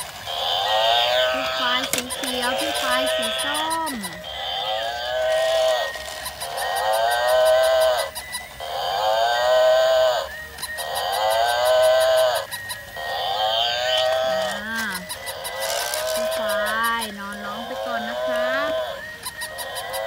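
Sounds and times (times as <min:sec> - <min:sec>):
electronic honking animal call: 0:00.0 - 0:20.0.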